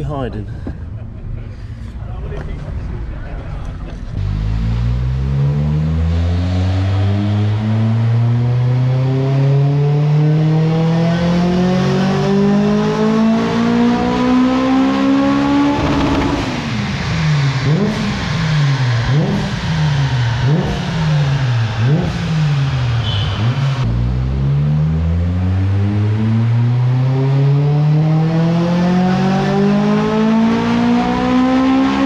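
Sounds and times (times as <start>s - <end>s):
car engine revving under load: 4.1s - 32.0s.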